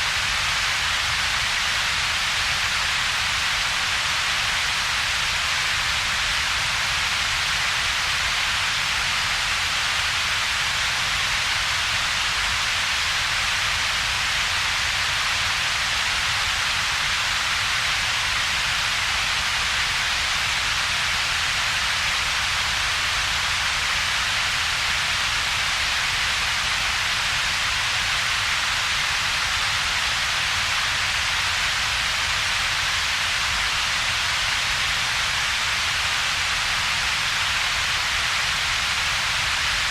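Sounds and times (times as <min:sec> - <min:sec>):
synthetic noise hiss: 0:00.0 - 0:39.9.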